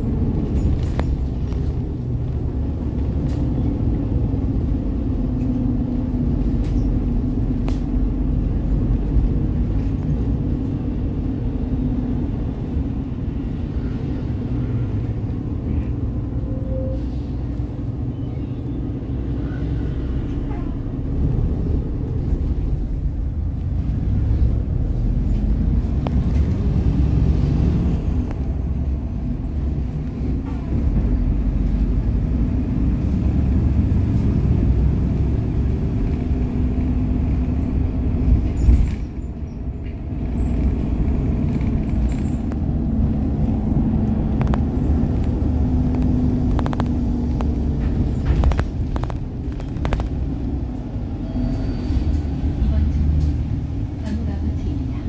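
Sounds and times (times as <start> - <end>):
bus diesel engine hum: 0.0 - 55.0
road rumble: 0.0 - 55.0.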